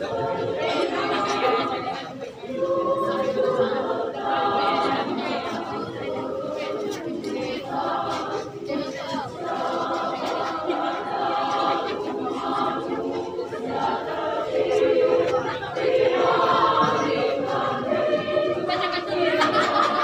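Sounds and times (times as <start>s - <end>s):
women's choir singing: 0.0s - 20.0s.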